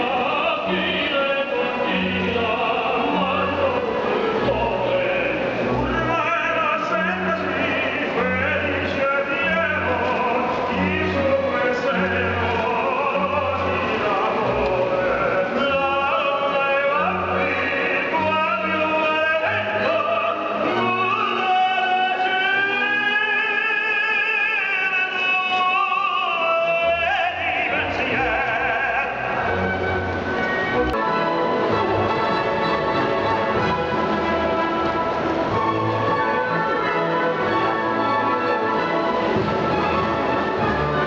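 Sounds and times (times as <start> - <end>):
instrumental accompaniment: 0.0 - 41.0
operatic tenor singing: 0.0 - 41.0.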